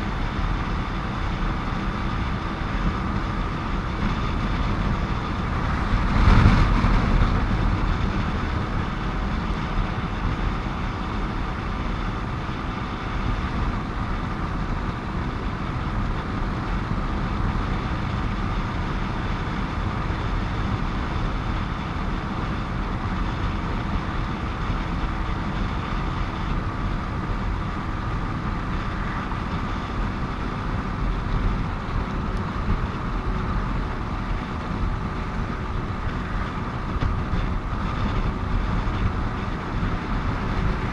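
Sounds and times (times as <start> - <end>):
motorcycle engine and tyre rumble: 0.0 - 40.9.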